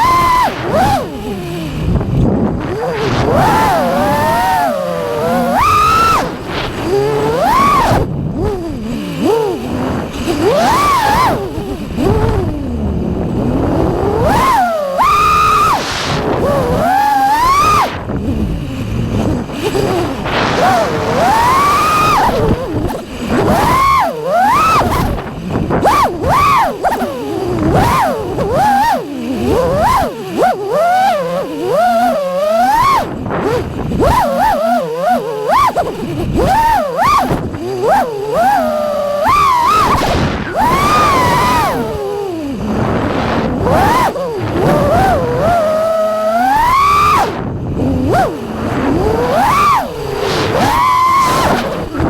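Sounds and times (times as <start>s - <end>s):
quadcopter motors whining: 0.0s - 52.0s.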